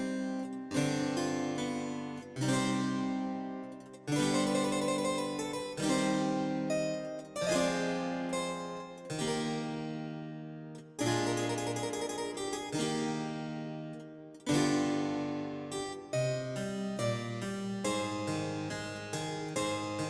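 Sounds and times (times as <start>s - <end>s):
harpsichord playing slow chords: 0.0s - 20.0s.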